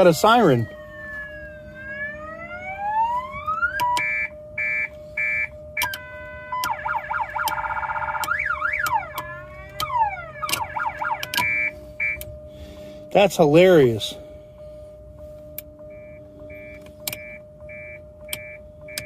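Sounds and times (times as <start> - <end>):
electronic car siren: 0.0 - 19.0.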